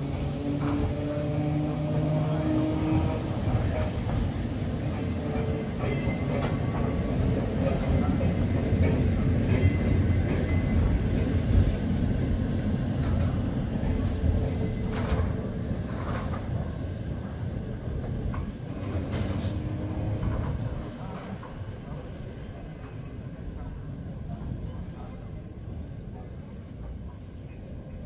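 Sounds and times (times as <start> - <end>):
tram wheels rumbling on rail: 0.0 - 28.0.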